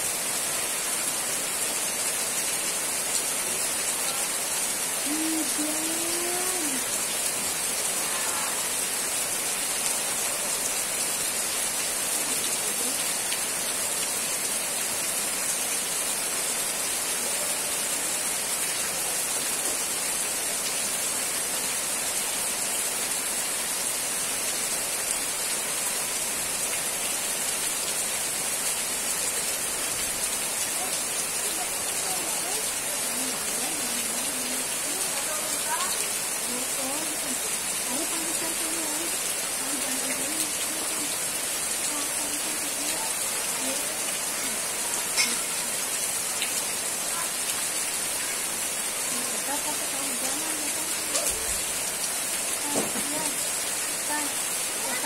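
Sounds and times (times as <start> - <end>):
rain falling on plants: 0.0 - 55.0.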